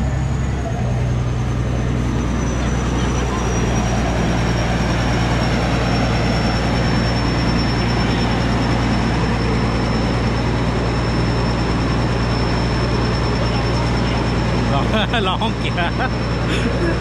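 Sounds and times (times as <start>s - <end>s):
diesel engine humming: 0.0s - 17.0s
thin high whine: 1.7s - 17.0s.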